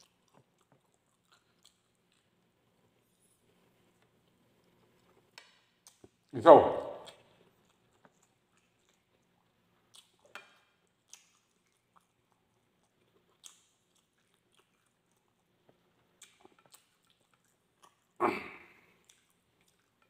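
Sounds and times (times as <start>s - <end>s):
man chewing food: 0.0s - 20.0s.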